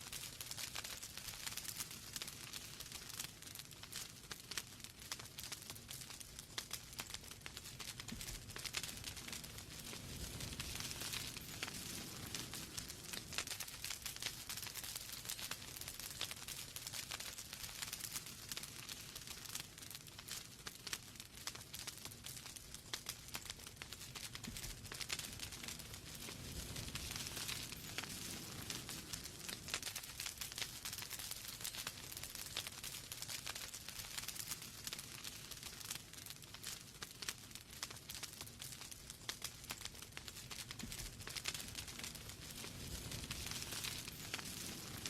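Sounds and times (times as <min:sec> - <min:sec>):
low rumble of flames: 0:00.0 - 0:45.0
wood fire crackling: 0:00.0 - 0:45.0.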